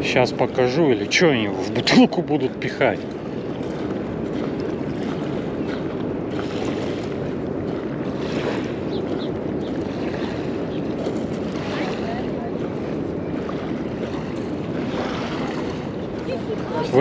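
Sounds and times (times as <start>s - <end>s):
waves lapping on pebbles: 0.0s - 17.0s
wind noise on microphone: 2.5s - 17.0s.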